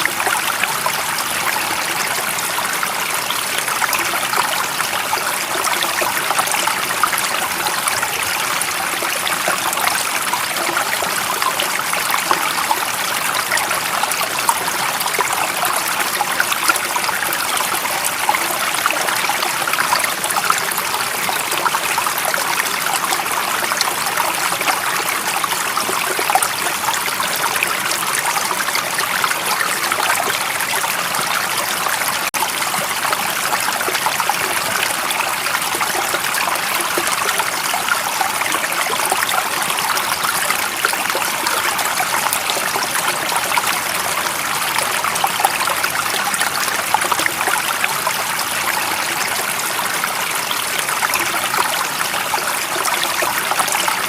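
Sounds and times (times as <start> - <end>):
stream of water flowing: 0.0 - 54.0.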